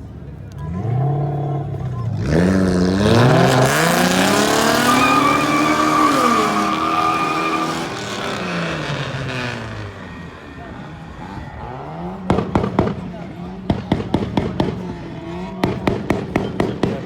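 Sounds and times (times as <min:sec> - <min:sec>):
car engine revving: 0:00.2 - 0:17.0.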